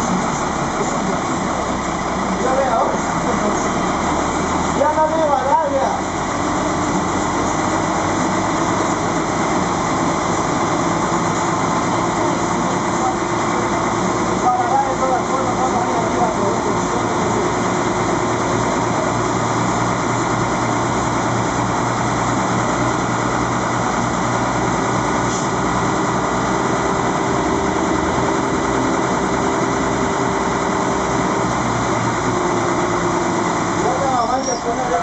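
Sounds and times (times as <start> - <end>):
cable car engine humming: 0.0 - 35.0.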